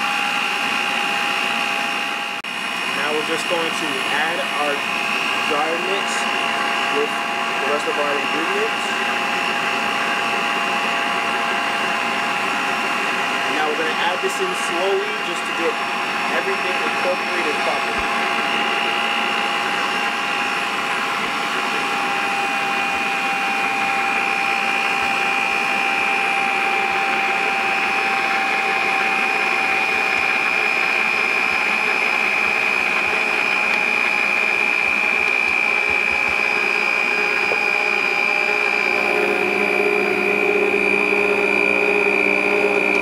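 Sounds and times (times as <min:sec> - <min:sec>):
electric kitchen mixer whine: 0:00.0 - 0:43.0.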